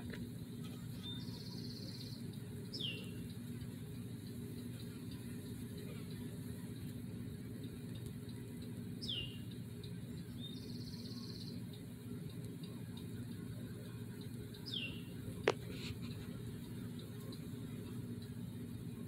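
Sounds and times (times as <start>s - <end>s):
steady low hum: 0.0s - 19.0s
songbird chirps: 0.2s - 19.0s
buzzy bird trill: 0.7s - 12.0s, 12.7s - 18.2s.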